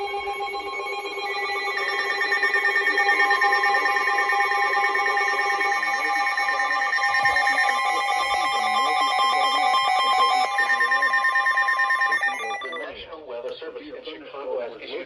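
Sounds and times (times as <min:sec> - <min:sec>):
pulsing weather radio alert tones: 0:00.0 - 0:12.8.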